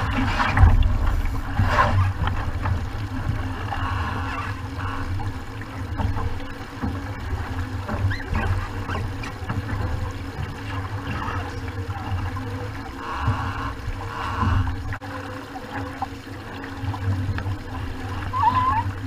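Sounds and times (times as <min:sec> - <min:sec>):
water splashing along boat hull: 0:00.0 - 0:19.0.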